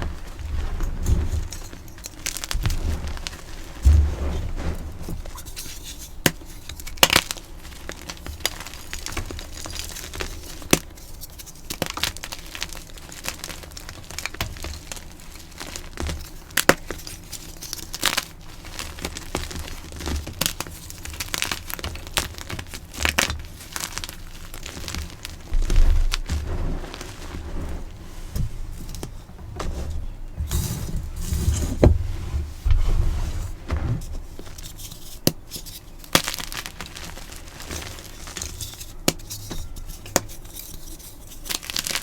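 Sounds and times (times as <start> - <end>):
chalk crunching and cracking: 0.0 - 42.0.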